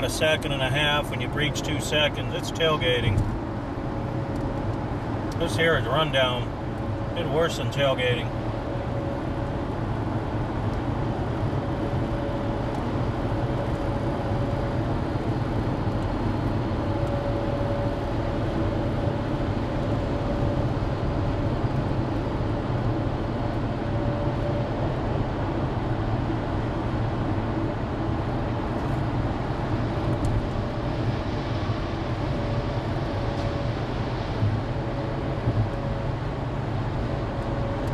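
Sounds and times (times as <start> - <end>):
engine drone inside vehicle cab: 0.0 - 37.9
faint steady whine: 0.0 - 37.9
road noise: 0.0 - 37.9.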